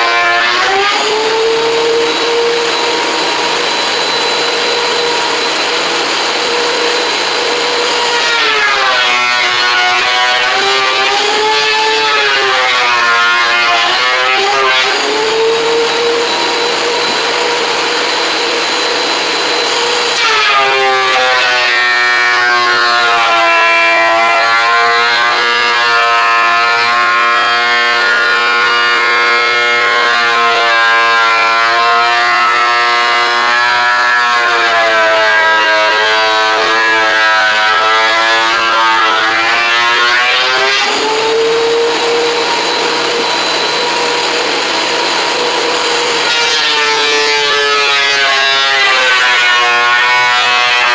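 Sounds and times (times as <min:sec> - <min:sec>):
thickness planer whining: 0:00.0 - 0:50.9.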